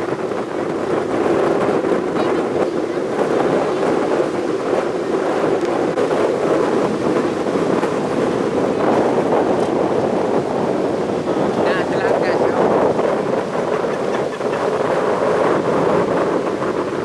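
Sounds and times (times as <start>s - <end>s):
heavy surf breaking: 0.0s - 17.0s
strong gusting wind: 0.0s - 17.0s
wind buffeting microphone: 0.0s - 17.0s.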